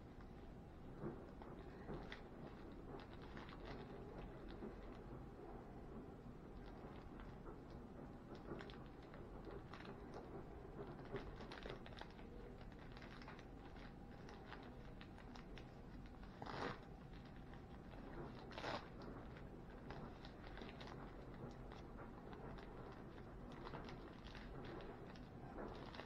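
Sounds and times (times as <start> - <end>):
plastic bag crinkling: 0.0 - 5.1, 8.3 - 26.0.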